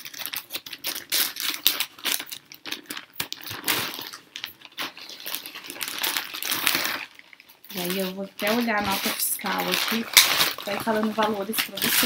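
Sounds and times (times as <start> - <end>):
plastic bag crinkling: 0.0 - 12.0
scissors cutting plastic: 0.0 - 12.0.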